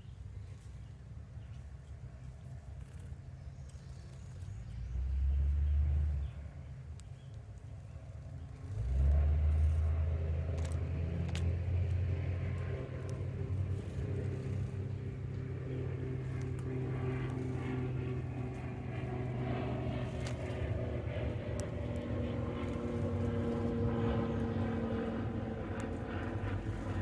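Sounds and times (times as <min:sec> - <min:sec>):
engine running with low rumble: 0:00.0 - 0:27.0.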